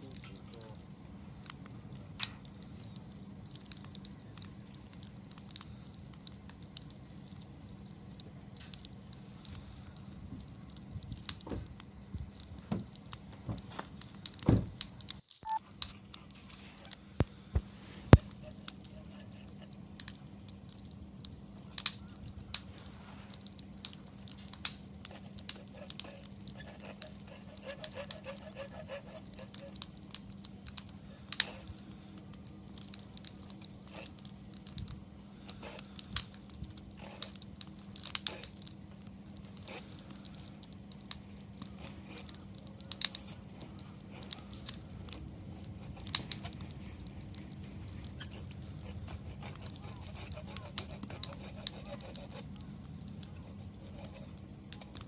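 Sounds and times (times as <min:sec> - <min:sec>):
campfire crackling and popping: 0:00.0 - 0:55.0
faint low hum: 0:00.0 - 0:55.0.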